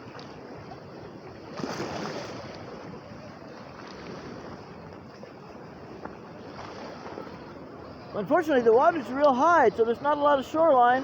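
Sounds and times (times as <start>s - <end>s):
waves washing against shore: 0.0s - 11.0s.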